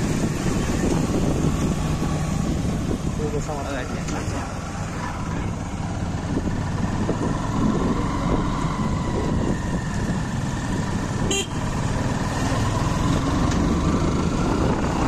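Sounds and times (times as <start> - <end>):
motorcycle engine at low speed: 0.0 - 15.0
road and wind noise: 0.0 - 15.0.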